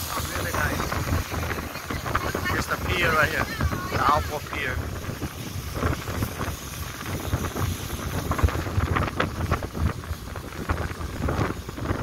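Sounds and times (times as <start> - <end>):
rush of a moving boat: 0.0 - 12.0
wind buffeting the microphone: 0.0 - 12.0.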